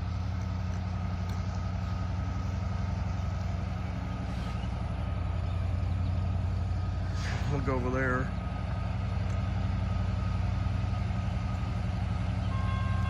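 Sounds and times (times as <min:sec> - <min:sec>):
diesel locomotive engine idling: 0:00.0 - 0:13.0.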